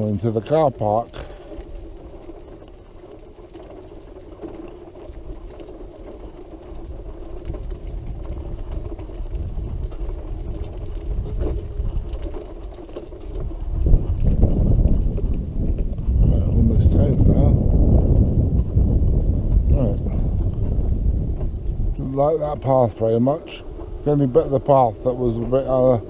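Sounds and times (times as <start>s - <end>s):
wheelchair rolling on bumpy path: 0.0s - 26.0s.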